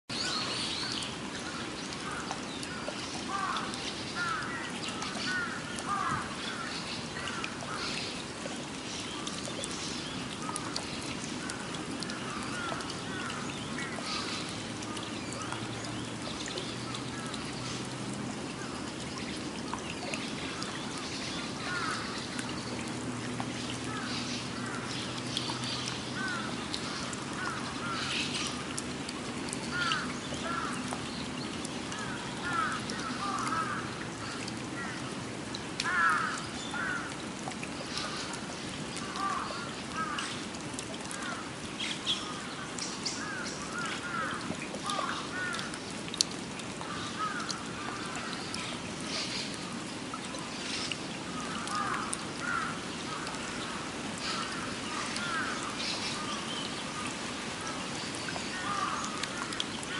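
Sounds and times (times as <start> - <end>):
rain falling onto puddle: 0.1 - 59.9
songbirds chirping: 0.1 - 59.9.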